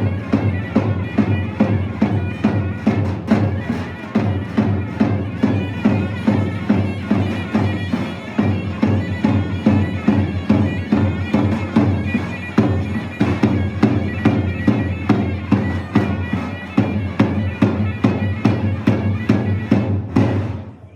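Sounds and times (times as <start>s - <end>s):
shrill reedy pipe melody: 0.0s - 19.9s
steady drum beats: 0.0s - 20.9s.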